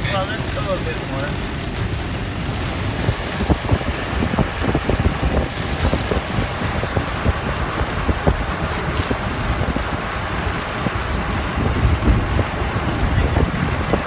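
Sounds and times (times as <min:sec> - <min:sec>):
heavy rain on car: 0:00.0 - 0:14.0
heavy raindrops hitting: 0:00.0 - 0:14.0
road noise: 0:00.0 - 0:14.0.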